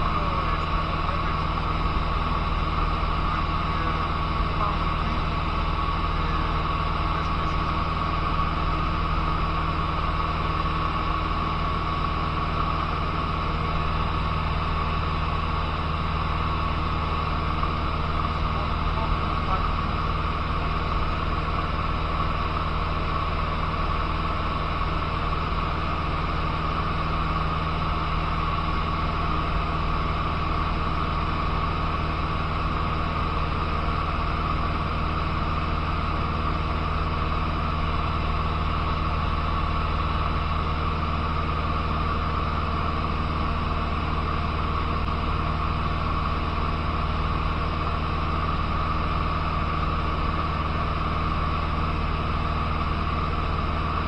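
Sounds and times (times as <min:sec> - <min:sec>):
light aircraft engine and propeller: 0:00.0 - 0:54.0.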